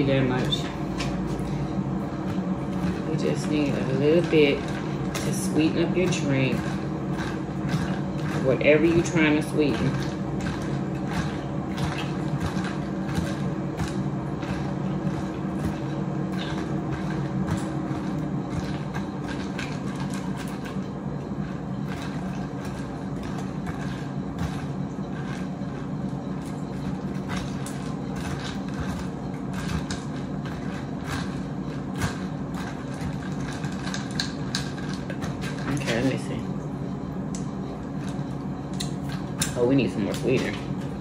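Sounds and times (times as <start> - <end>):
appliance fan hum: 0.0 - 41.0.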